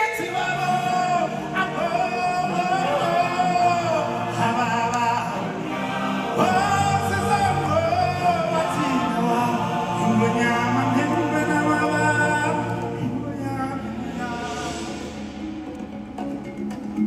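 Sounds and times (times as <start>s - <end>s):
choir singing held notes: 0.0s - 17.0s
sustained instrumental chords: 0.0s - 17.0s.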